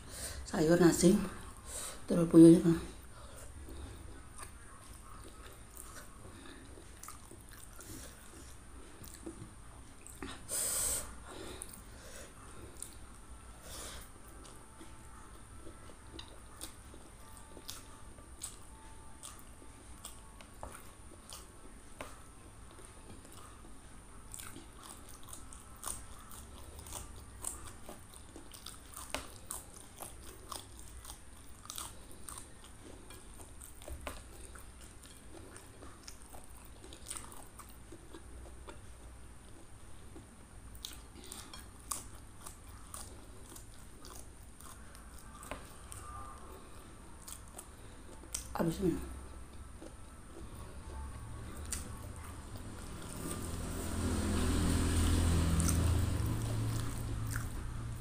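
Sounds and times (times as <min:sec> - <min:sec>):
chewing and crunching vegetables: 0:02.6 - 0:10.5, 0:11.3 - 0:58.0.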